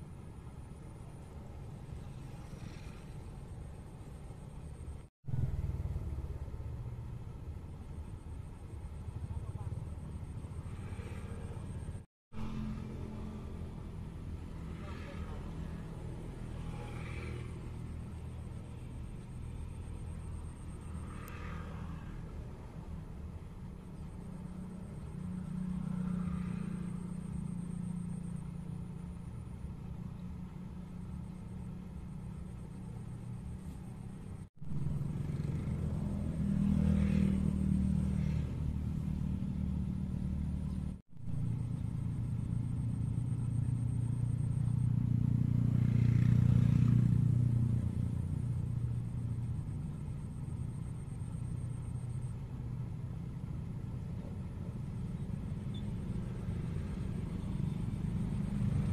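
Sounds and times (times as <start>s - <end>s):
road traffic passing: 0.0s - 58.9s.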